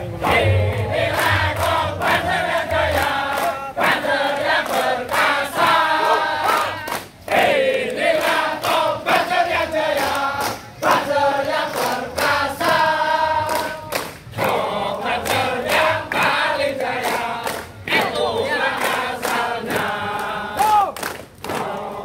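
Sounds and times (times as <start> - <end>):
men chanting in unison: 0.0 - 22.0
hand claps: 0.2 - 22.0.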